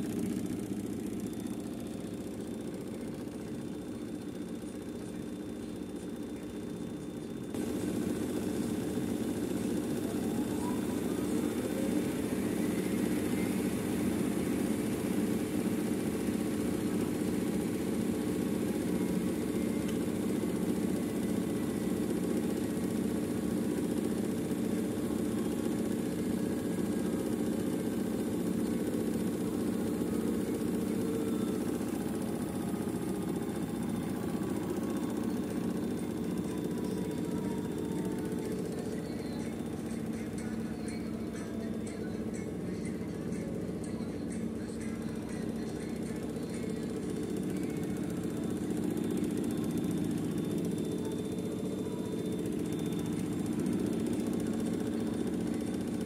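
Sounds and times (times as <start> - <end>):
motor whine: 0.0 - 56.0
washing machine spin hum: 0.0 - 56.0.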